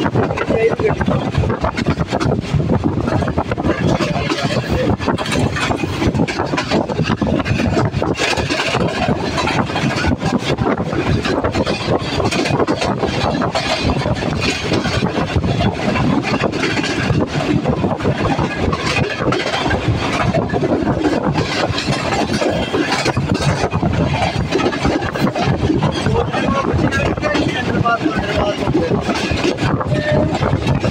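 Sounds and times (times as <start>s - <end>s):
rushing wind: 0.0s - 30.9s
train wheels rolling on track: 0.0s - 30.9s.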